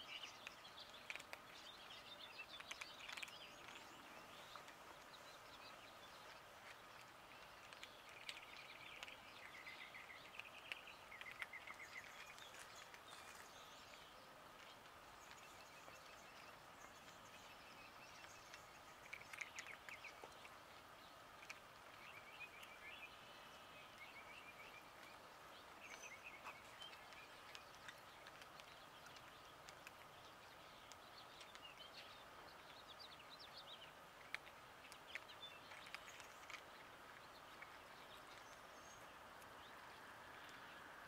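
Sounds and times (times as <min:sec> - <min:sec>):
distant birds chirping: 0:00.0 - 0:41.0.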